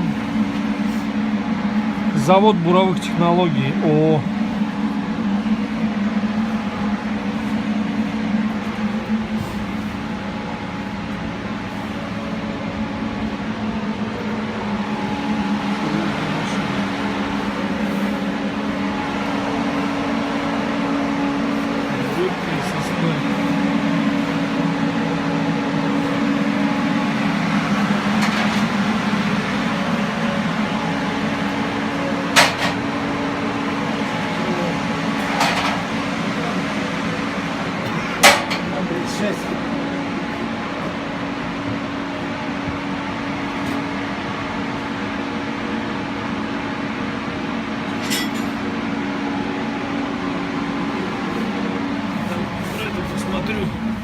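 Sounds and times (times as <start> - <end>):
drilling rig machinery humming: 0.0 - 54.0.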